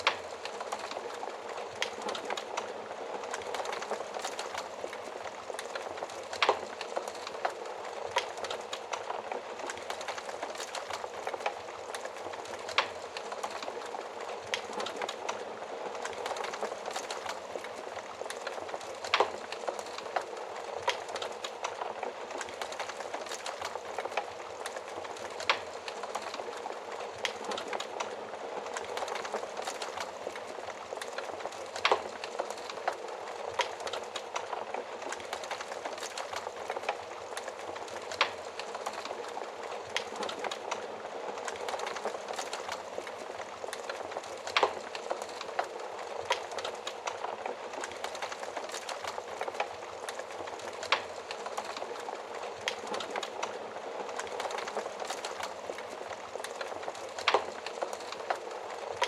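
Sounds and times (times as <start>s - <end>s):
hiss of stove flames: 0.0s - 59.0s
wood fire crackling and popping: 0.0s - 59.0s.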